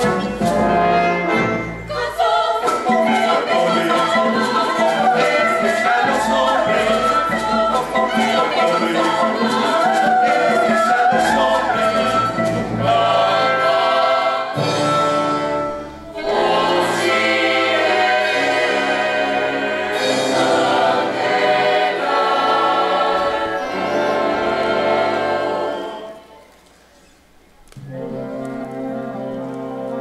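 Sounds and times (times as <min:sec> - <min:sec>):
choir singing with orchestra: 0:00.0 - 0:26.6.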